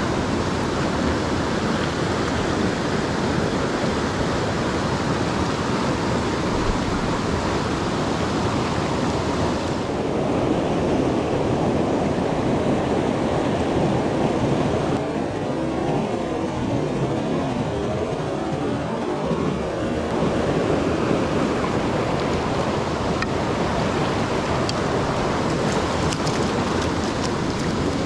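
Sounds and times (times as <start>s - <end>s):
stream rushing over rocks: 0.0s - 16.2s, 16.8s - 28.0s.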